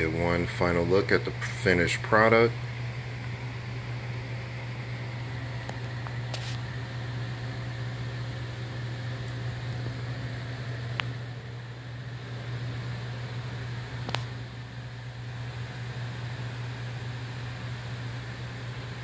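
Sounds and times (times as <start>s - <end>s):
low machine hum with hiss: 0.0s - 19.0s.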